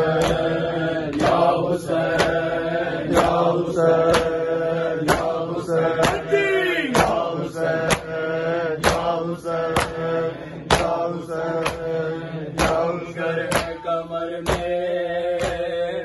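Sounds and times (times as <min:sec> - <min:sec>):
men chanting: 0:00.0 - 0:16.0
hands slapping chests: 0:00.1 - 0:08.2, 0:08.8 - 0:15.8.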